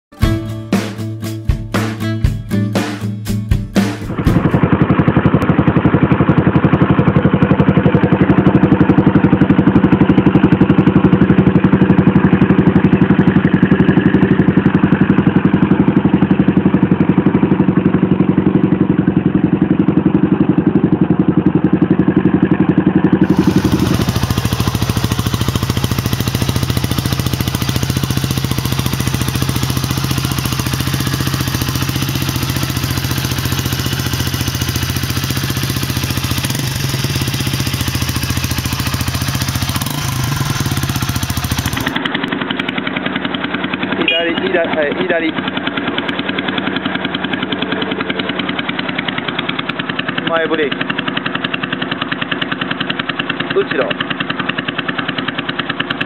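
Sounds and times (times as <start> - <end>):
motorcycle engine idling: 3.0 - 56.0.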